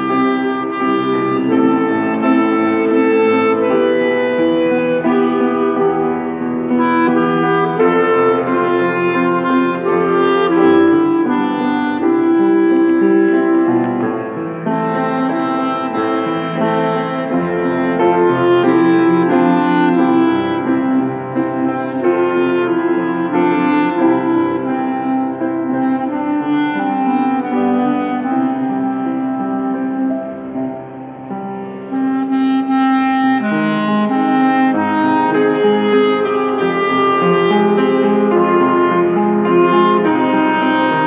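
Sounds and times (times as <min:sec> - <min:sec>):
clarinet melody: 0:00.0 - 0:41.0
piano accompaniment: 0:00.0 - 0:41.0.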